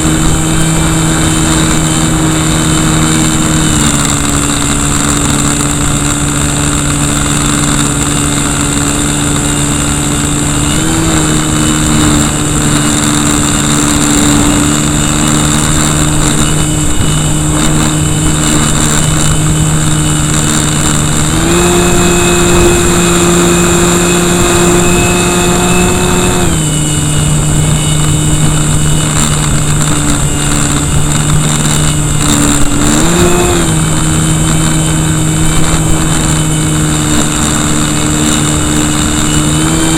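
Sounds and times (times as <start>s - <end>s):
electric motor and propeller whine: 0.0s - 39.9s
wind rushing over microphone: 0.0s - 39.9s.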